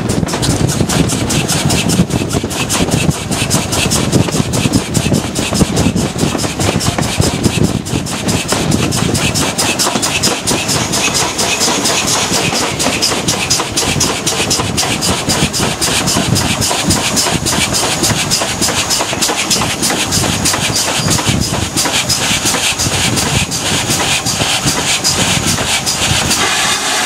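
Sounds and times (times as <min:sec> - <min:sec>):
steam locomotive beat: 0:00.0 - 0:27.0.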